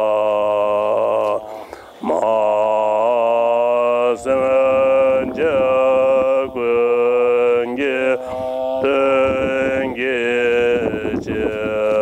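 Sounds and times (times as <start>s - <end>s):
men chanting a prayer: 0.0s - 12.0s.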